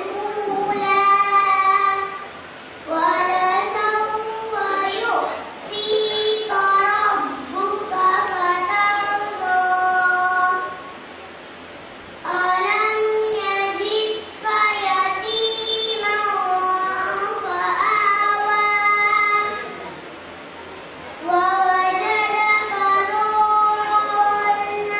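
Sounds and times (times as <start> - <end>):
girl singing into a microphone: 0.0 - 11.0, 12.2 - 19.9, 21.2 - 24.9.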